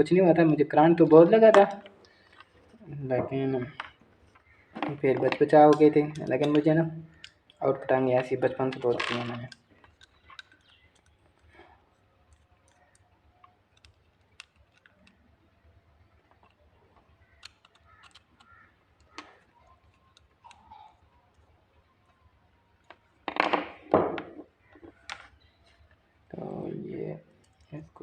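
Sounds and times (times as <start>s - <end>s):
plastic parts clicking: 3.7s - 26.6s.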